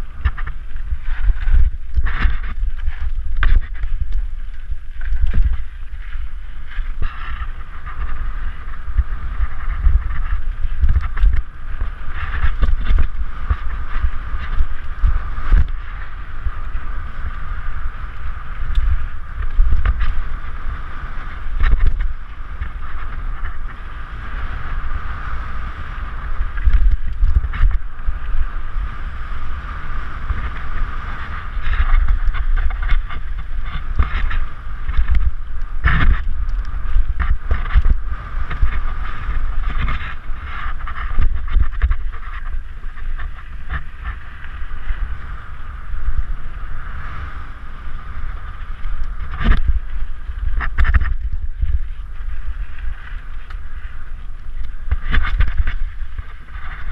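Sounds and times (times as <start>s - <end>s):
bike rattling over bumps: 0.0s - 56.9s
wind buffeting: 0.0s - 56.9s.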